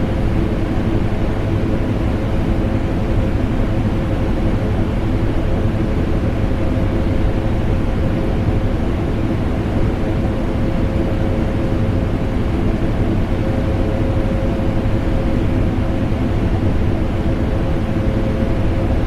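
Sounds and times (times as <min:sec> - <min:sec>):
air conditioner noise: 0:00.0 - 0:19.0.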